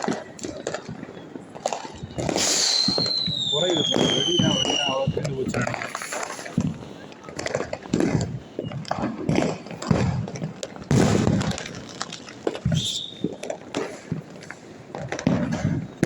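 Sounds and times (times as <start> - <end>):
firecrackers banging and crackling: 0.0 - 16.0.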